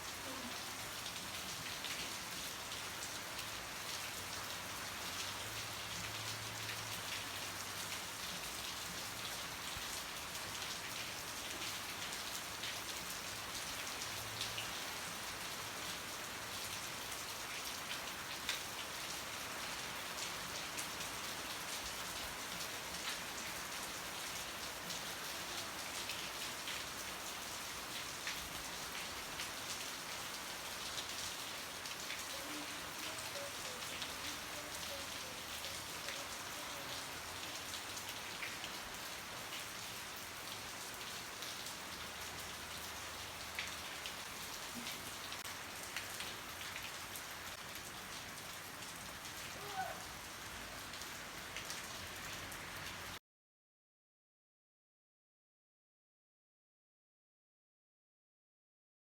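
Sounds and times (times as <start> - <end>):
heavy rain: 0.0 - 53.2.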